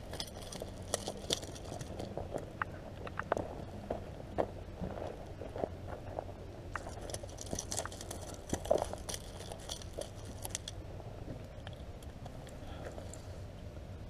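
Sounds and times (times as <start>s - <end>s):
gravel crunching: 0.0s - 13.6s.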